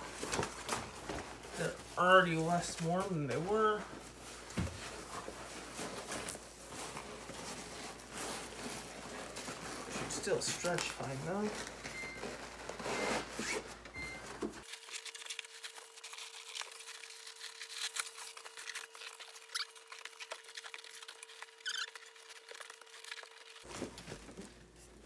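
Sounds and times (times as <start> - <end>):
plastic bag crinkling: 0.0 - 13.5, 14.6 - 25.0.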